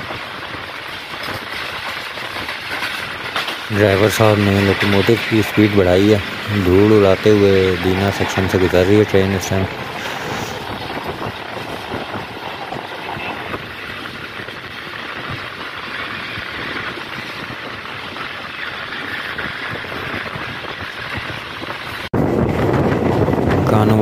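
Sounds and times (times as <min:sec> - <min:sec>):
train wheels on rails: 0:00.0 - 0:24.0
wind noise: 0:00.0 - 0:24.0.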